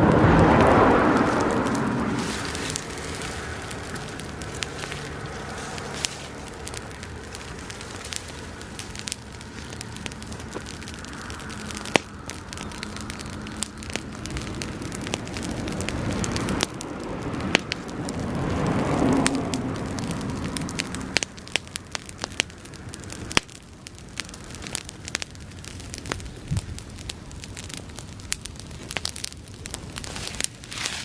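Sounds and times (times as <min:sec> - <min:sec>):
bonfire crackling and popping: 0:00.0 - 0:31.0
flames burning: 0:00.0 - 0:31.0.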